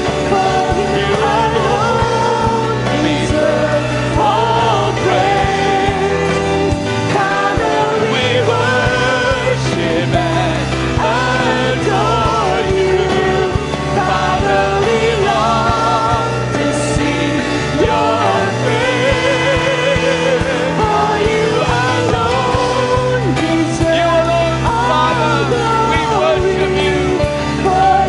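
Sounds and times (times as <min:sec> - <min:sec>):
lead vocal singing: 0:00.0 - 0:28.0
steady bass: 0:00.0 - 0:28.0
worship band playing: 0:00.0 - 0:28.0.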